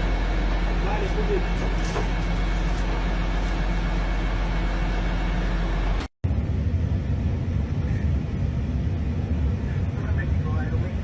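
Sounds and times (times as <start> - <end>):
engine rumble: 0.0 - 11.0
low rumble: 0.0 - 11.0.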